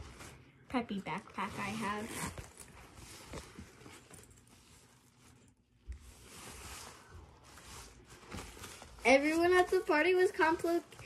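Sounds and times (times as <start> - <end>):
backpack rustling and handling: 0.0 - 10.0.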